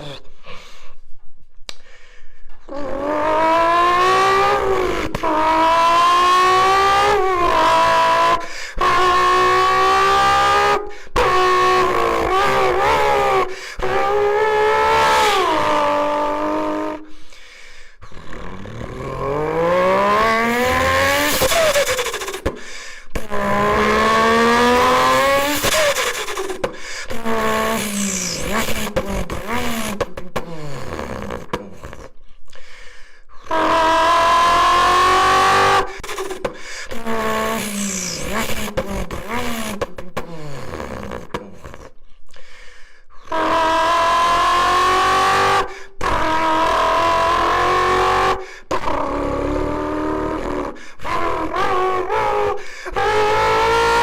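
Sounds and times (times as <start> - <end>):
person imitating car engine: 0.0 - 0.4, 2.6 - 17.2, 18.0 - 32.2, 33.4 - 42.0, 43.2 - 54.0.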